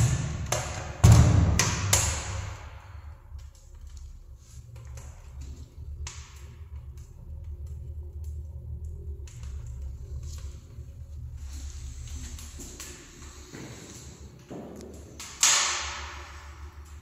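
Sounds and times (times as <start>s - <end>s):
firewood crackling and popping: 0.0s - 17.0s
low fire rumble: 0.0s - 17.0s.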